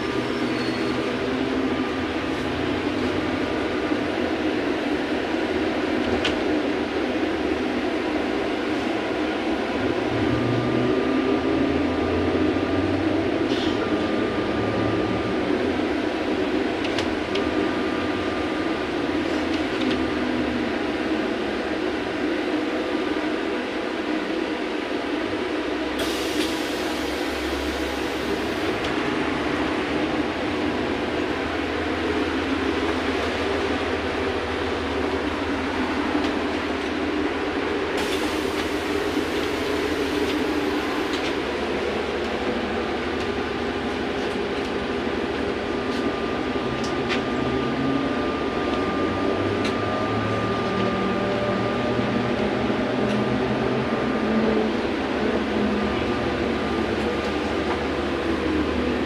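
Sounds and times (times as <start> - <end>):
trolleybus cabin hum and rumble: 0.0 - 59.0.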